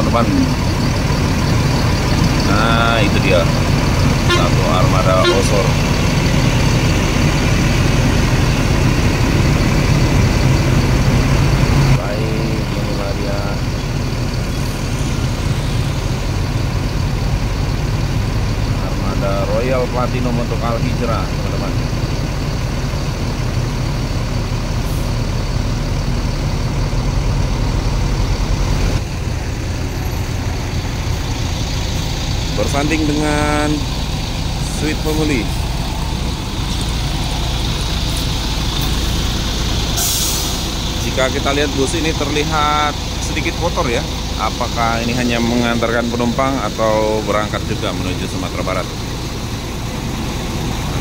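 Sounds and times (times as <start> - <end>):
bus diesel engine at low revs: 0.0 - 51.0.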